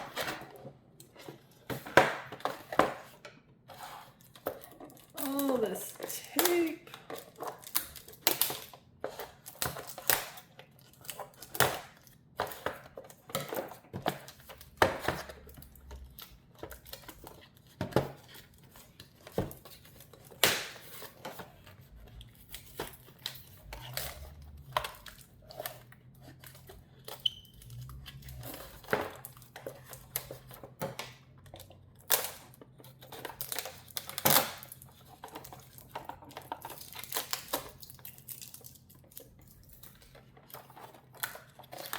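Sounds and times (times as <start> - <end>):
plastic and paper crinkling: 0.0 - 41.9.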